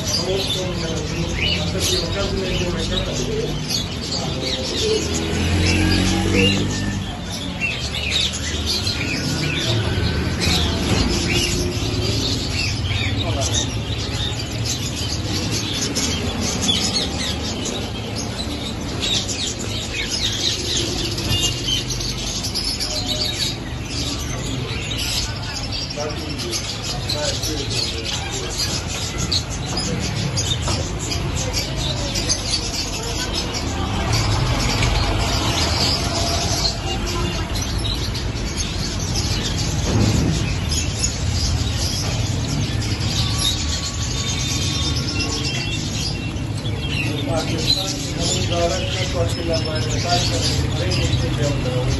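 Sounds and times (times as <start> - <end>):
caged birds chirping: 0.0 - 51.9.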